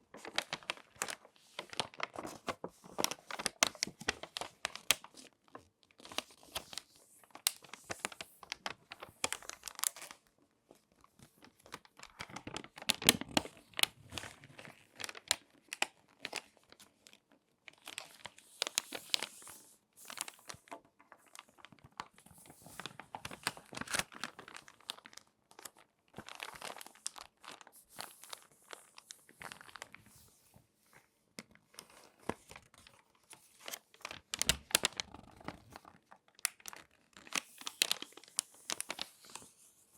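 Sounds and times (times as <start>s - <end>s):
magazine pages crinkling: 0.0s - 10.3s, 11.0s - 30.2s, 31.0s - 39.9s.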